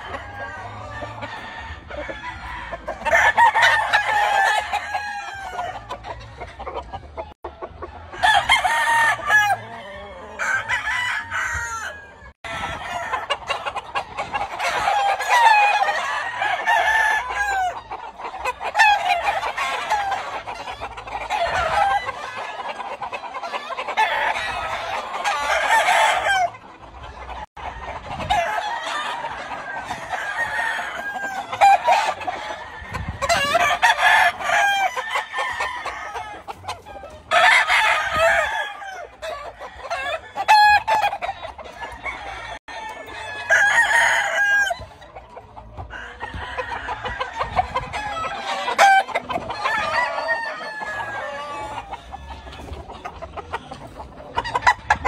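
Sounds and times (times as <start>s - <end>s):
roosters crowing: 0.0s - 55.0s.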